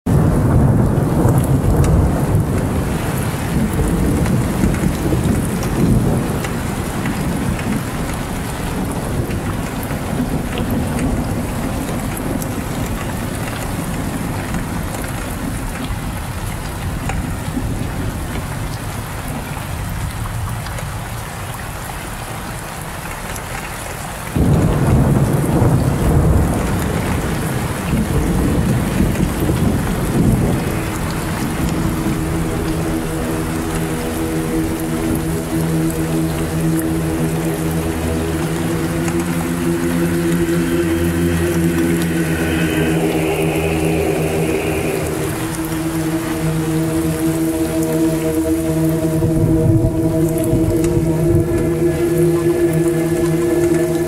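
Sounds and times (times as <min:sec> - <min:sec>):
heavy rain: 0:00.0 - 0:54.0
rolling thunder: 0:00.1 - 0:18.4, 0:24.4 - 0:53.8.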